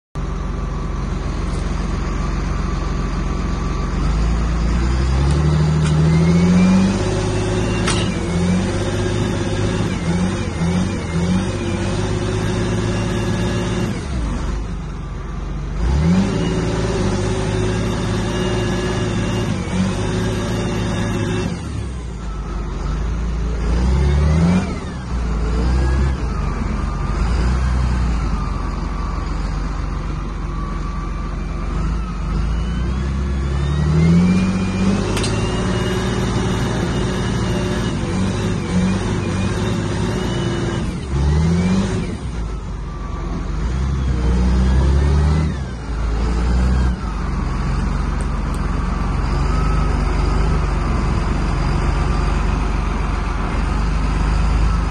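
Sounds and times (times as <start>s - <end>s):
tractor diesel engine revving: 0.2s - 54.9s.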